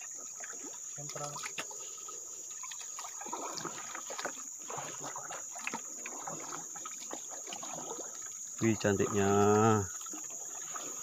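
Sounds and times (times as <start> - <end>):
small knocks and splashes: 0.0 - 11.0
water sloshing around boat: 0.0 - 11.0.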